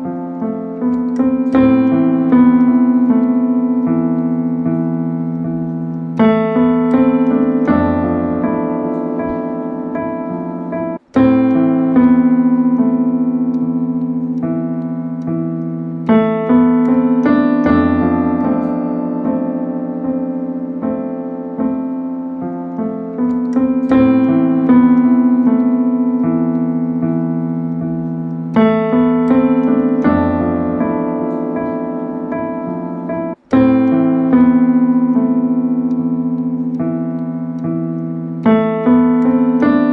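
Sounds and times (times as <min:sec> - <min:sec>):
slow piano chords: 0:00.0 - 0:39.9.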